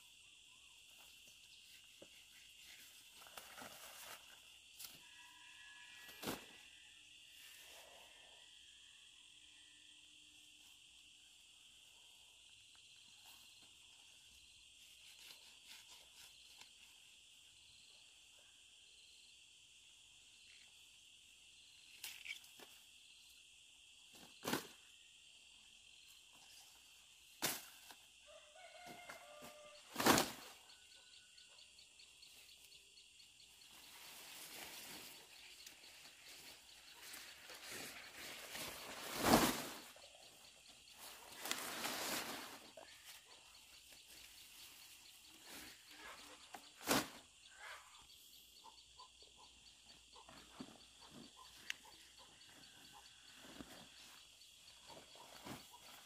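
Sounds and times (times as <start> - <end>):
faint high insect drone: 0.0 - 56.0.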